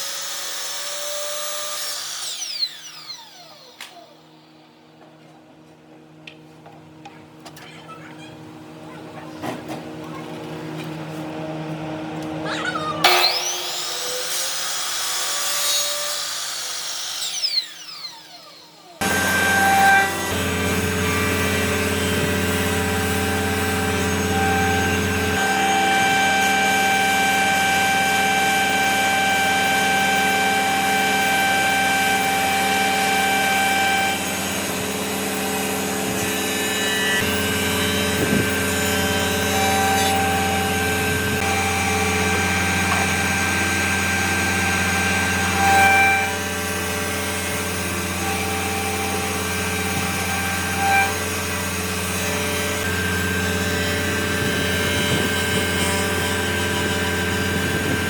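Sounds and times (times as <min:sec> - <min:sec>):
power tool whining on wood: 0:00.0 - 0:07.7, 0:09.5 - 0:58.0.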